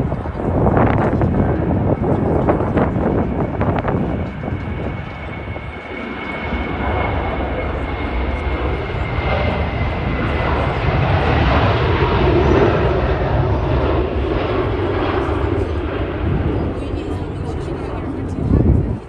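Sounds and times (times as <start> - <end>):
jet engines rumbling at takeoff: 0.0 - 19.0.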